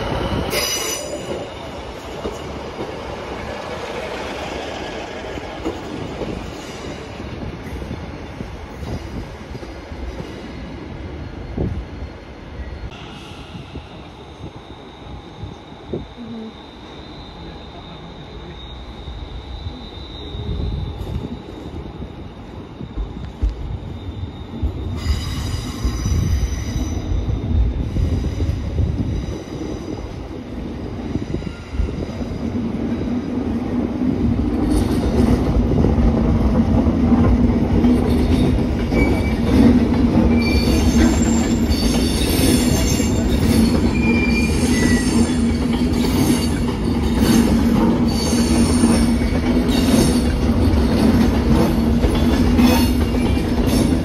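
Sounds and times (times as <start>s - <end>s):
train wheels squealing and clicking: 0.0s - 33.5s, 34.3s - 54.0s
electric train passing: 0.0s - 54.0s
steady train hum: 0.0s - 54.0s.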